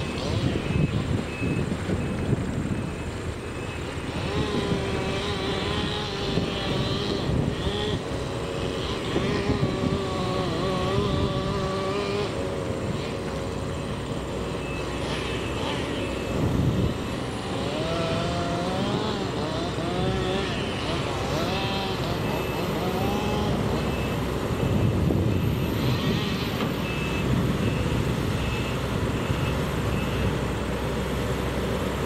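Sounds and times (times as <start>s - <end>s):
truck engine driving slowly: 0.0s - 32.0s.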